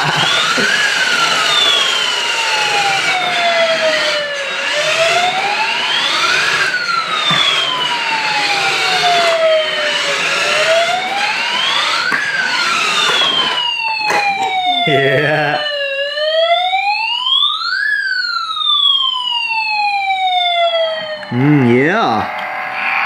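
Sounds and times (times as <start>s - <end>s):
toy electronic siren wailing: 0.0s - 23.0s.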